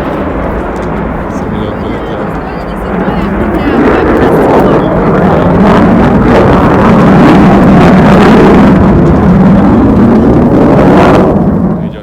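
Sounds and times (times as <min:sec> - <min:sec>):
loud steady roar: 0:00.0 - 0:12.0.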